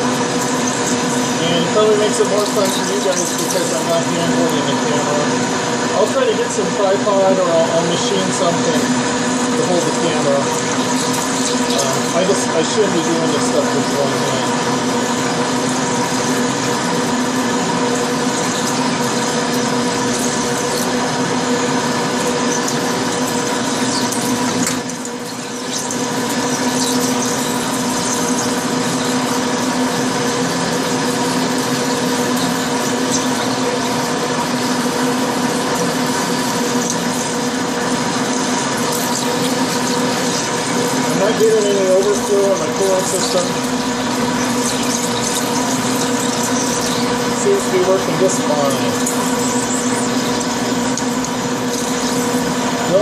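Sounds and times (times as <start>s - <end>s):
coolant hiss: 0.0s - 53.0s
lathe machine hum: 0.0s - 53.0s.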